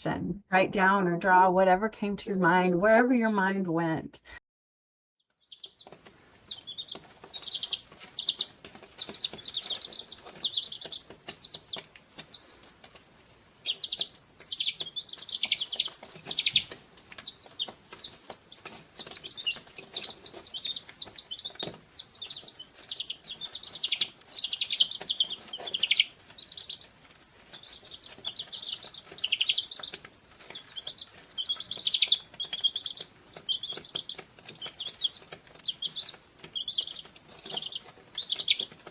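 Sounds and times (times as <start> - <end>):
small birds chirping: 5.2 - 38.9.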